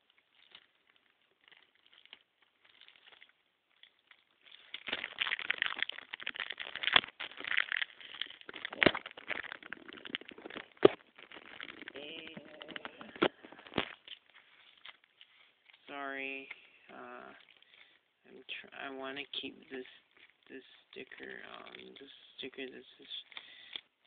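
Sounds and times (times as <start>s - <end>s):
cellophane crinkling: 0.0s - 24.0s.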